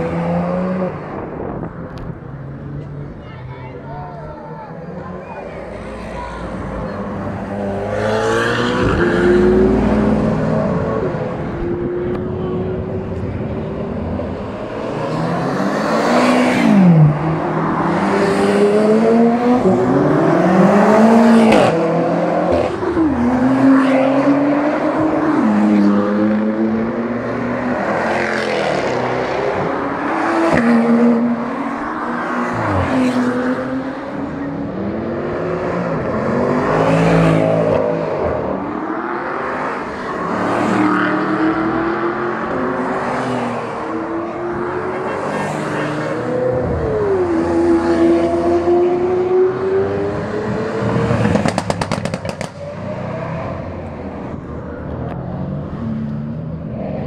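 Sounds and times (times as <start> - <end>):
sports cars accelerating past: 5.4 - 57.0.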